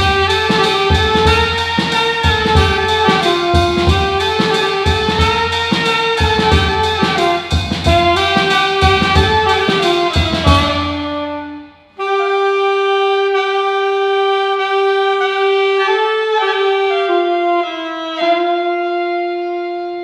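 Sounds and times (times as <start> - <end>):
band playing: 0.0 - 20.0
saxophone-like slow melody: 0.0 - 20.0.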